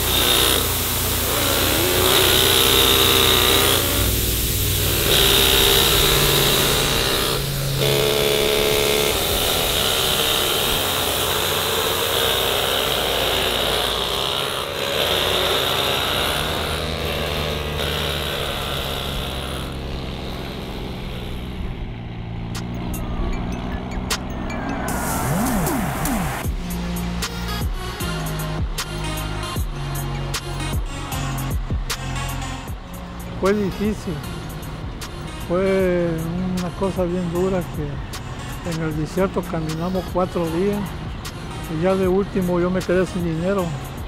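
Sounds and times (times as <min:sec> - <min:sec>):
farm vehicle engines running: 0:00.0 - 0:44.0.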